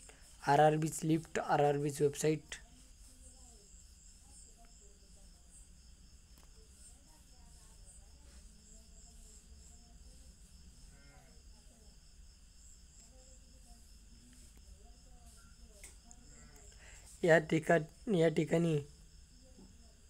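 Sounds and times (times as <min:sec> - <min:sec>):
faint voice-like sound: 0:00.0 - 0:20.0
insect chirring: 0:00.0 - 0:20.0.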